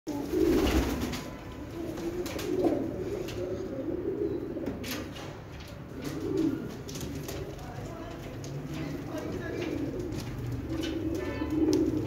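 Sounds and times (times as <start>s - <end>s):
pigeons cooing: 0.1s - 7.9s, 8.6s - 12.0s.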